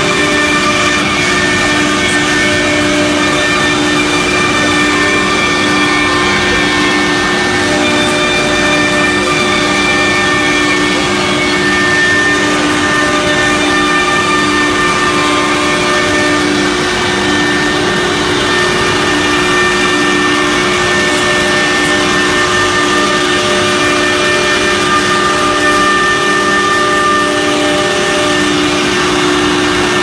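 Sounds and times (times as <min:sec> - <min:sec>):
cnc router spindle whine: 0:00.0 - 0:30.0
cutting and dust extraction noise: 0:00.0 - 0:30.0.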